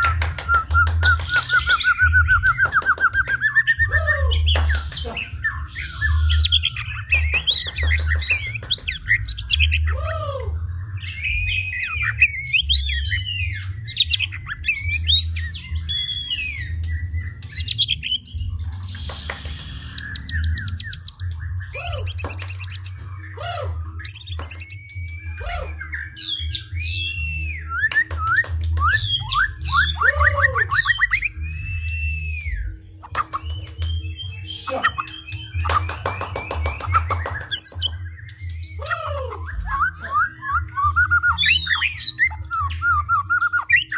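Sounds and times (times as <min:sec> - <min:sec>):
songbird singing whistles and trills: 0:00.0 - 0:43.9.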